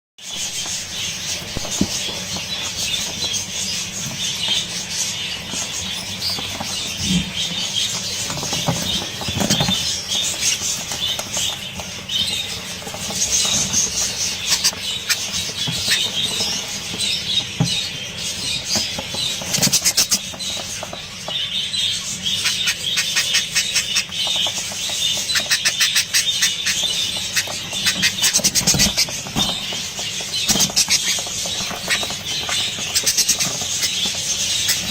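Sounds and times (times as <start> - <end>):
budgerigars chirping and chattering: 0.2 - 34.9.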